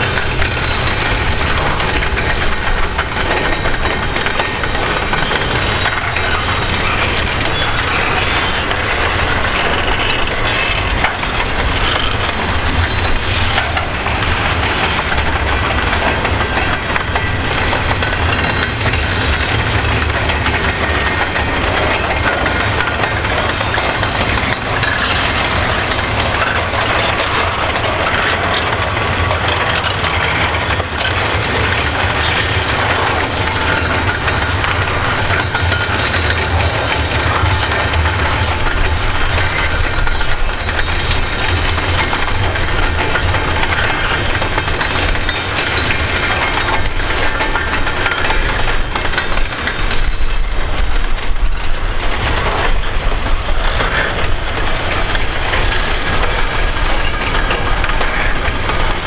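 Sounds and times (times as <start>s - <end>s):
freight train wheels rumbling on rails: 0.0s - 59.0s
train clicking and clattering: 0.0s - 59.0s.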